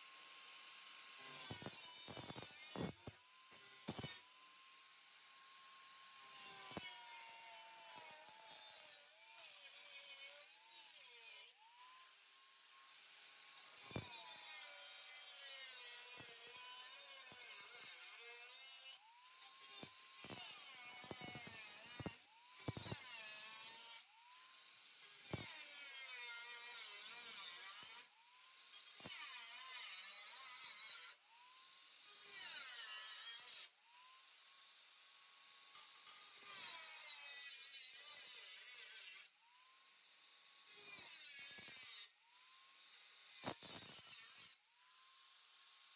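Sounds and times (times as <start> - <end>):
power cutter whining through steel: 0.0 - 45.9.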